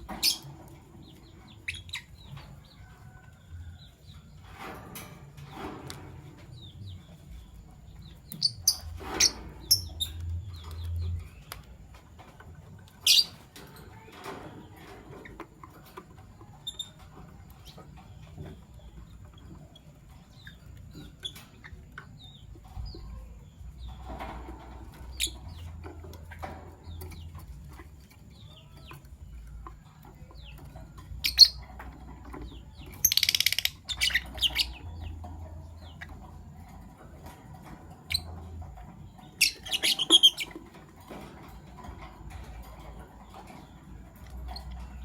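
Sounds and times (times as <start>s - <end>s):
lovebirds chirping: 0.0s - 4.6s, 6.3s - 45.0s.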